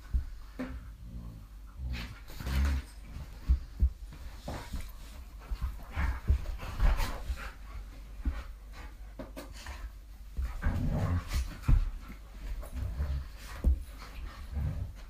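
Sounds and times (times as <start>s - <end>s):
dog breathing sounds: 0.0s - 15.0s.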